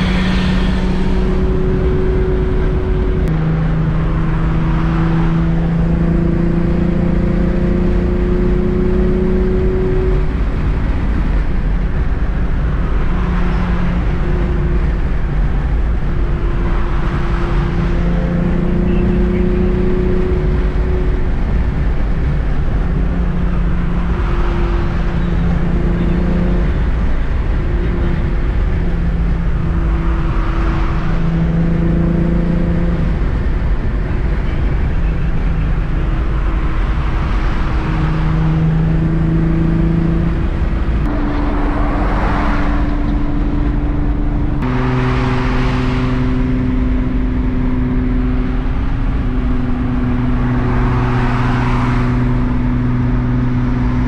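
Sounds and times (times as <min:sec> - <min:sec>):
car engine drone: 0:00.0 - 0:54.0
cars passing whoosh: 0:00.0 - 0:54.0
road and wind noise: 0:00.0 - 0:54.0.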